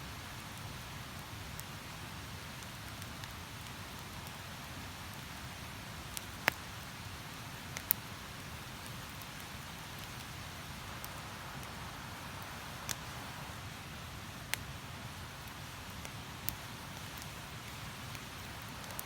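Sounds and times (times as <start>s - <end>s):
campfire crackling: 0.1s - 19.0s
fire popping: 0.4s - 19.0s.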